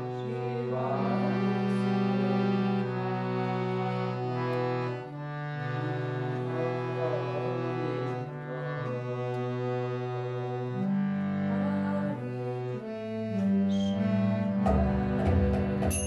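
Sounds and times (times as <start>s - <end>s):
harmonium chords: 0.0s - 16.0s.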